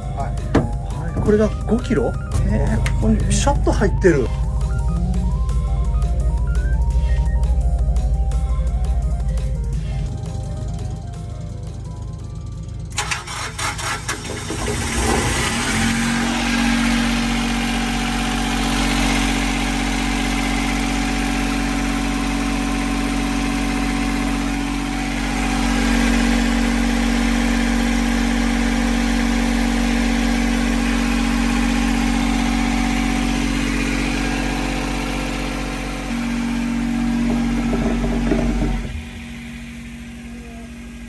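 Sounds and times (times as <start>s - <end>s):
boat engine idling: 0.0s - 41.0s.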